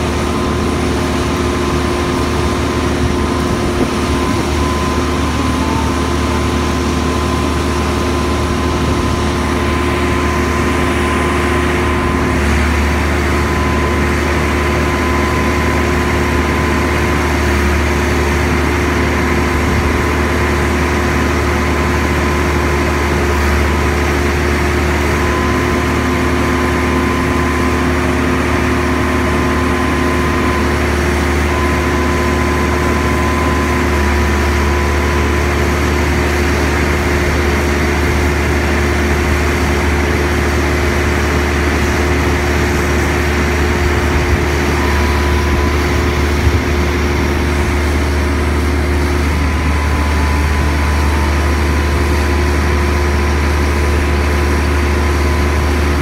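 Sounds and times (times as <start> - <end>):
diesel crane engine running: 0.0 - 56.0.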